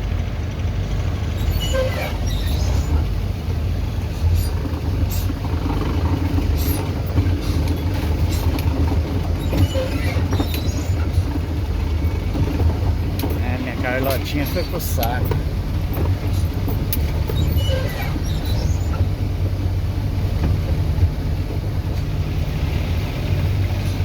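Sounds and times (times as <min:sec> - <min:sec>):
knocks and rattles on dirt road: 0:00.0 - 0:24.0
vehicle engine droning: 0:00.0 - 0:24.0.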